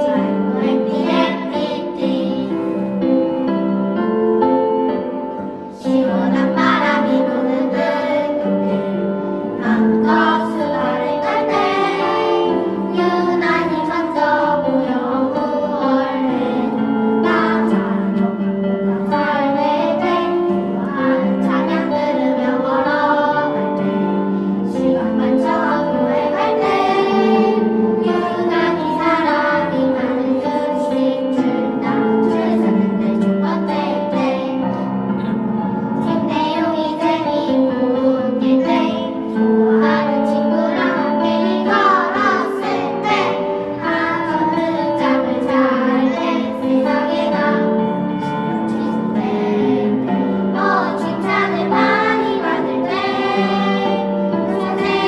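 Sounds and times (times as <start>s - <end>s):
children singing in unison: 0.0s - 3.7s, 5.6s - 35.3s, 36.0s - 55.0s
instrumental accompaniment: 0.0s - 55.0s.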